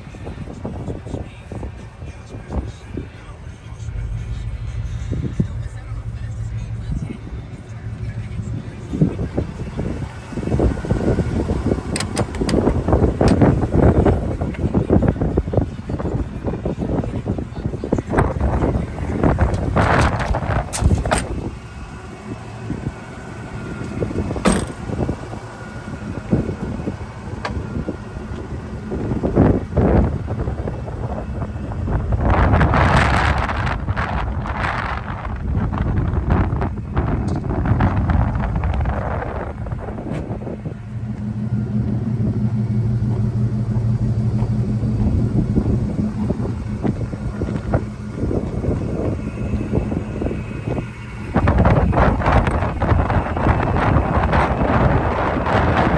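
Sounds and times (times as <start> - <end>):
pickup truck engine rumbling: 0.0 - 55.9.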